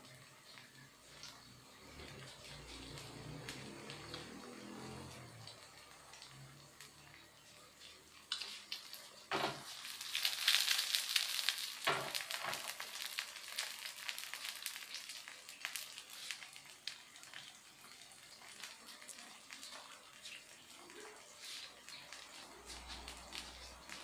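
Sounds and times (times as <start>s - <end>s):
egg sizzling in a frying pan: 0.0s - 24.0s.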